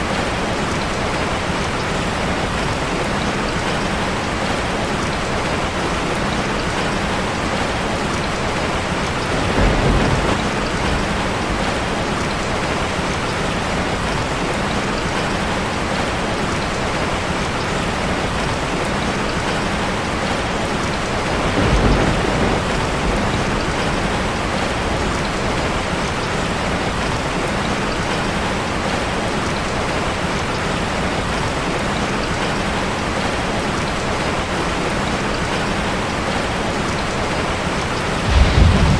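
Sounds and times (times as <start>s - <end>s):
rain drumming on metal roof: 0.0s - 38.9s.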